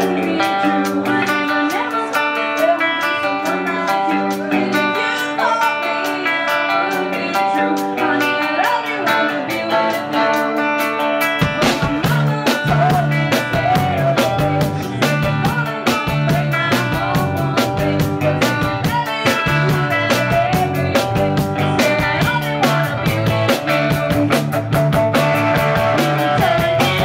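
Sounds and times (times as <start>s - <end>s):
drums: 0.0s - 27.0s
electric guitar: 0.0s - 27.0s
woman singing into a microphone: 0.0s - 27.0s.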